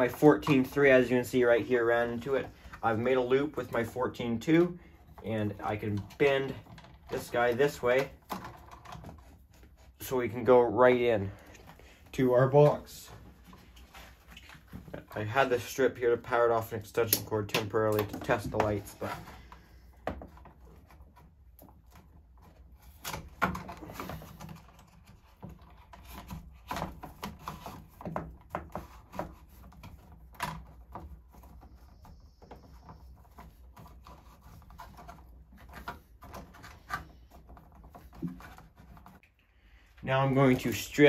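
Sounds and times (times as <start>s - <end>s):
cable clicks taps and rustles: 0.0s - 41.0s.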